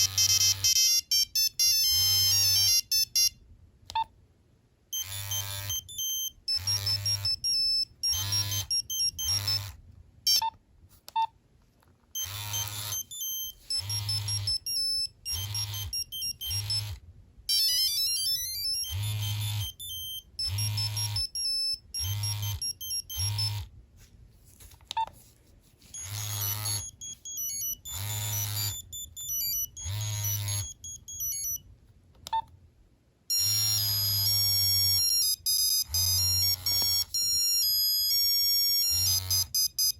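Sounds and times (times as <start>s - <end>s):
monophonic phone ringtone beeps: 0.0s - 3.4s, 4.9s - 10.5s, 12.2s - 23.7s, 26.0s - 31.6s, 33.3s - 39.9s.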